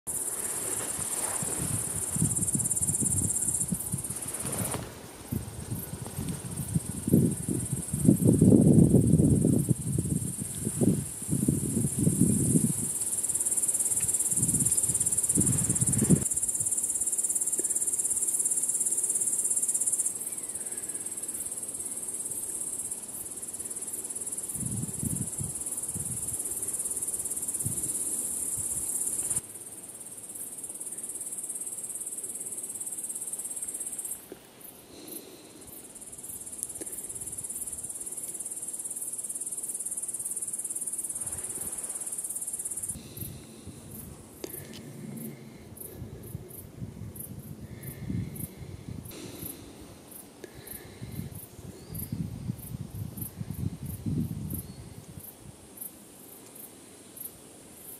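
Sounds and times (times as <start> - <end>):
crickets chirring: 0.1 - 57.9.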